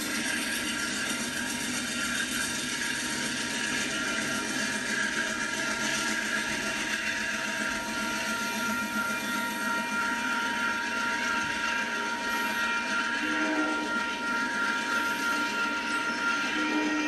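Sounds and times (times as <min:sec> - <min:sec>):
high-pitched whining tones: 0:00.0 - 0:17.0
mechanical whirring: 0:00.0 - 0:17.0.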